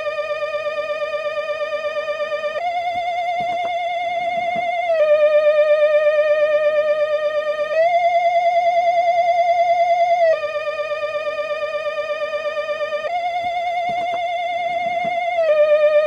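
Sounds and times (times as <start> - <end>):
electronic tone with vibrato: 0.0 - 16.0.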